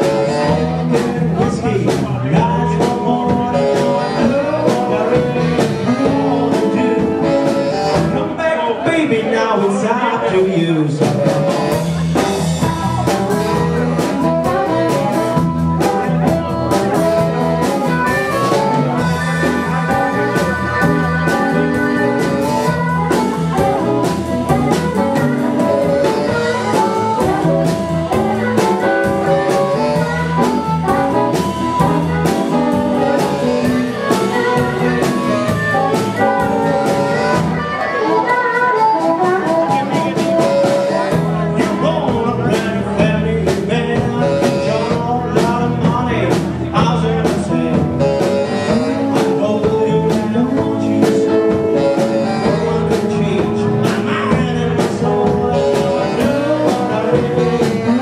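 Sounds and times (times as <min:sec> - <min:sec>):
saxophone melody: 0:00.0 - 0:08.4, 0:11.0 - 0:42.7, 0:43.8 - 0:58.0
live blues band playing: 0:00.0 - 0:58.0.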